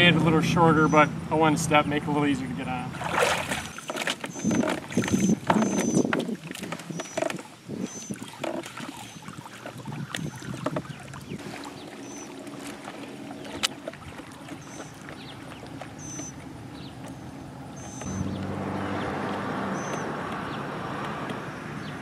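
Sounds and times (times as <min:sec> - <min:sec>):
wind and water hiss: 0:00.0 - 0:22.0.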